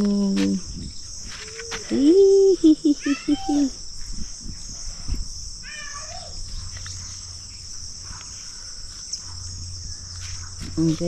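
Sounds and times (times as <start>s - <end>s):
insects chirring in chorus: 0.0s - 11.0s.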